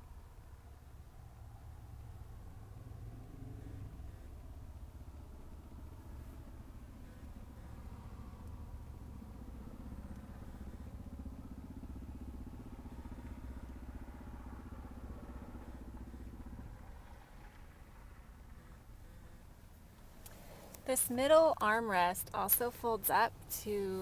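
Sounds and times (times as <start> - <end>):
vehicle engine low rumble: 0.0 - 24.0.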